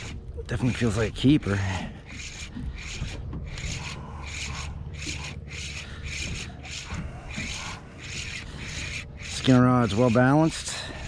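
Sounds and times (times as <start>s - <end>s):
fishing reel cranking with rasp: 0.0s - 11.0s.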